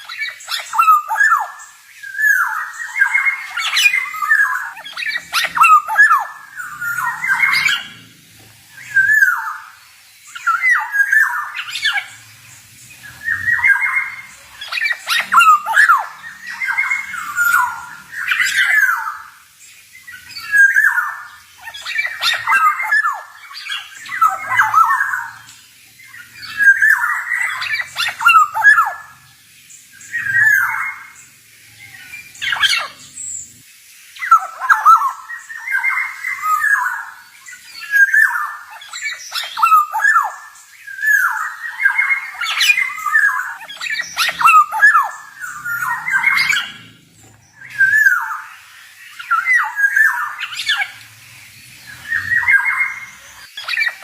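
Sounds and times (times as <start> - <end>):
bird singing warbling phrases: 0.0 - 54.0.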